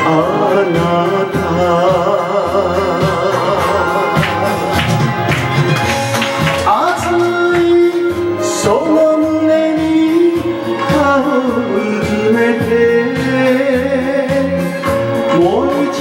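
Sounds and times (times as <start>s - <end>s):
man singing into microphone: 0.0s - 5.3s, 6.6s - 16.0s
backing track with bass beat: 0.0s - 16.0s.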